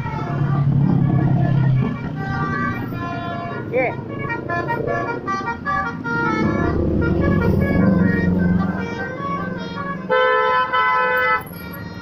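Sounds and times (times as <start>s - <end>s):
low bus engine noise: 0.0s - 12.0s
musical bus horn playing a tune: 0.0s - 12.0s.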